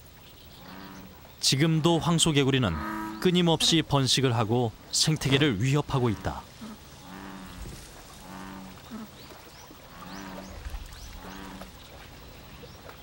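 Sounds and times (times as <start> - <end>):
bullfrogs calling: 0.0 - 12.6.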